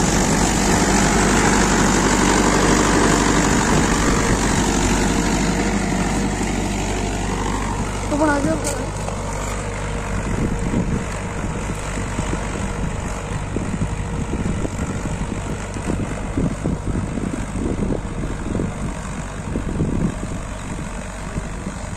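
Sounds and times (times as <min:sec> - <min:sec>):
tractor diesel engine under load: 0:00.0 - 0:21.9.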